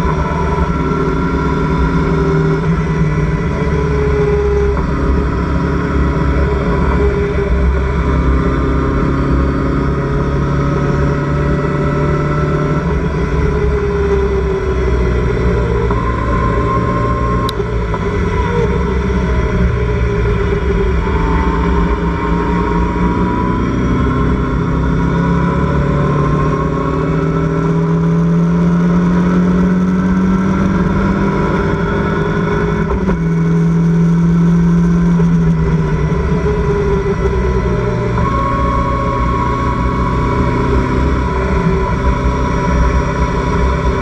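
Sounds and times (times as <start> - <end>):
race car engine under load: 0.0 - 44.0.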